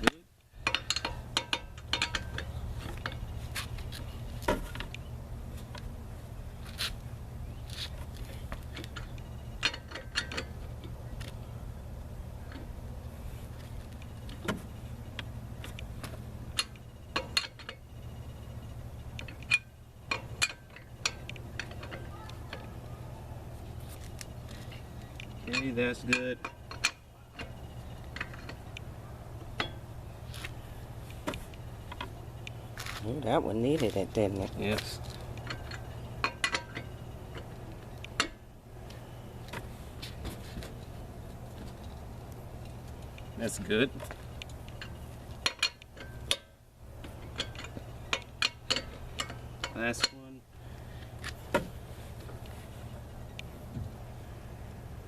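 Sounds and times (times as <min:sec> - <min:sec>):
steady low hum: 0:00.0 - 0:55.0
lug wrench clinking on lug nuts: 0:00.5 - 0:06.0, 0:07.5 - 0:22.8, 0:24.1 - 0:30.6, 0:33.7 - 0:39.7, 0:40.6 - 0:53.6.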